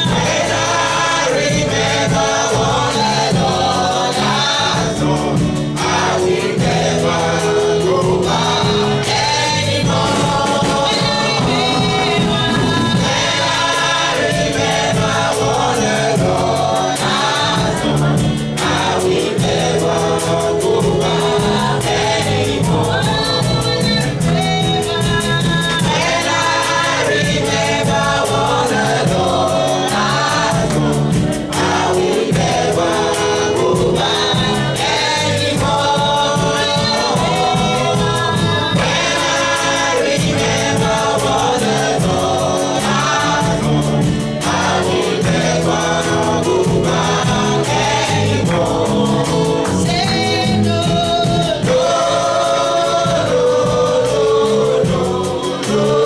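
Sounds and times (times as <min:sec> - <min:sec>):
band accompaniment: 0:00.0 - 0:56.0
choir singing gospel song: 0:00.0 - 0:56.0.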